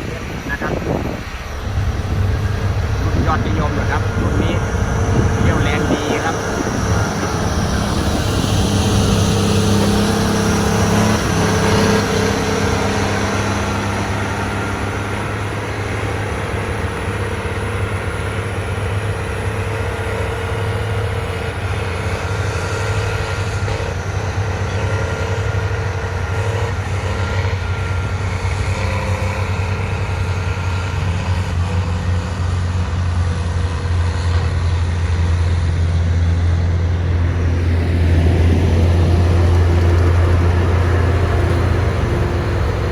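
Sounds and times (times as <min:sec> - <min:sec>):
diesel engine running: 0:00.0 - 0:42.9
mechanical whine: 0:00.0 - 0:42.9.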